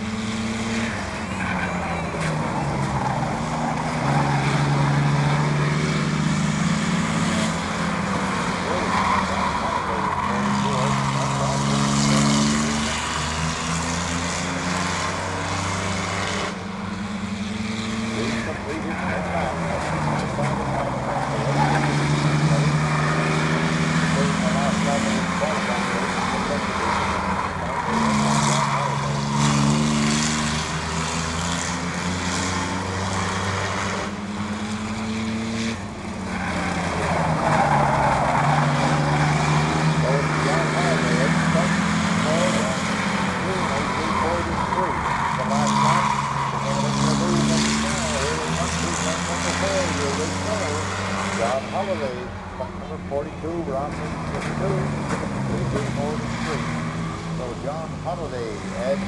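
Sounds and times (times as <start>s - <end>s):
racing truck engines running: 0.0s - 59.0s.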